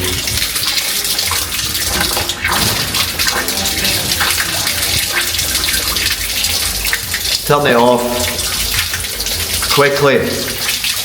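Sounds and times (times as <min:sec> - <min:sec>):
water pouring from a pipe: 0:00.0 - 0:11.0.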